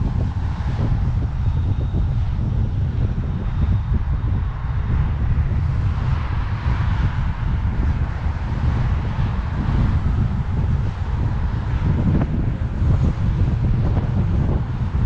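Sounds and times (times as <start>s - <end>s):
traffic noise: 0.0s - 15.0s
wind buffeting microphone: 0.0s - 15.0s.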